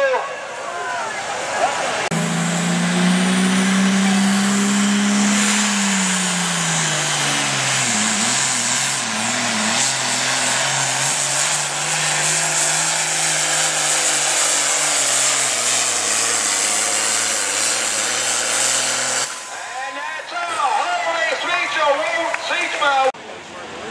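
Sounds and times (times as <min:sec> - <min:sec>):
diesel tractor engine at full throttle: 0:00.3 - 0:23.0.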